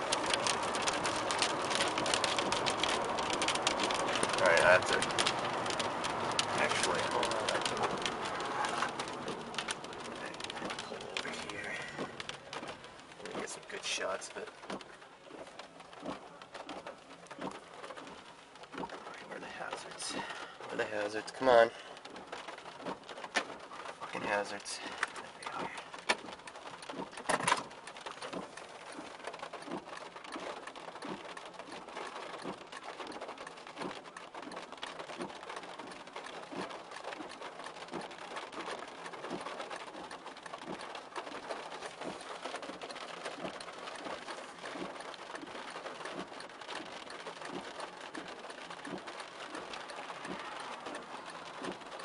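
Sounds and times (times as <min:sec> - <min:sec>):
heavy rain drumming on a car: 0:00.0 - 0:52.0.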